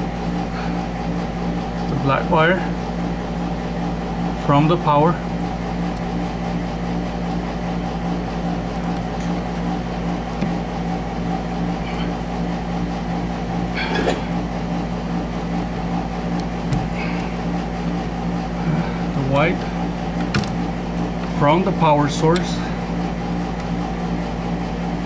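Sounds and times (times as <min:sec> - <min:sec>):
mechanical hum: 0:00.0 - 0:25.0.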